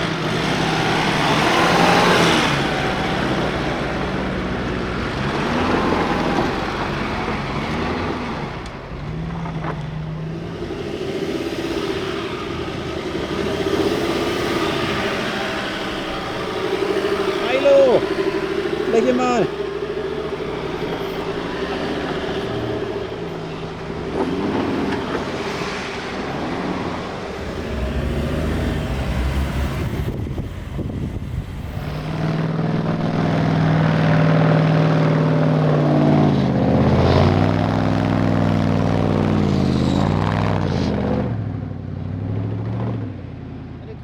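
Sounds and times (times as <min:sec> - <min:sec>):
vehicle engine revving: 0:00.0 - 0:44.0.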